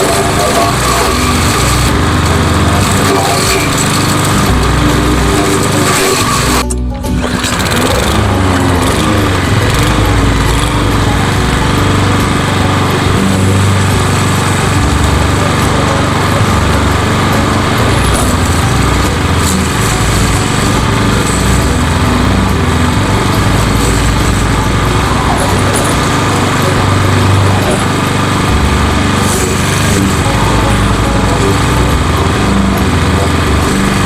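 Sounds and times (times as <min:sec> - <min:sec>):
lawnmower engine cutting grass: 0:00.0 - 0:34.0.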